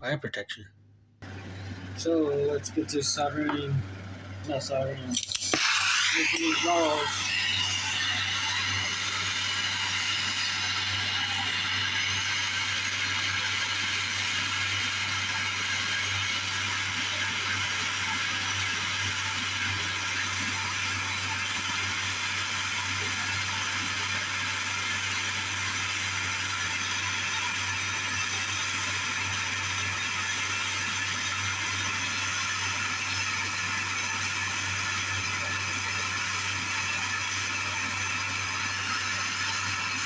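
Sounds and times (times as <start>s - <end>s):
torch flame hissing: 1.2s - 40.0s.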